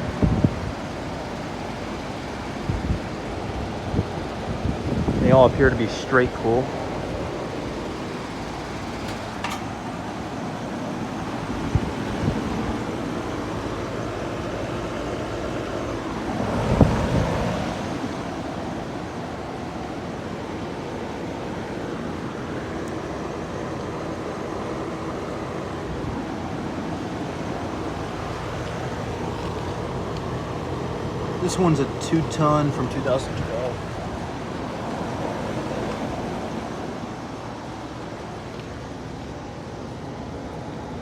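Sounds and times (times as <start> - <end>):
fan and compressor hum: 0.0 - 41.0.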